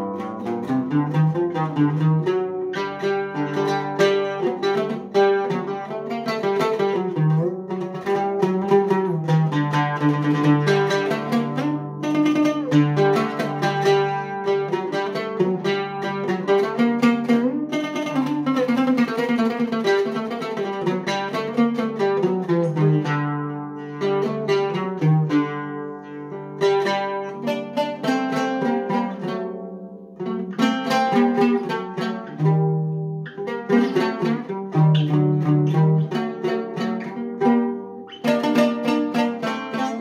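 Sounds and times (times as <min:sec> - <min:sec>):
oud plucked melody: 0:00.0 - 0:40.0.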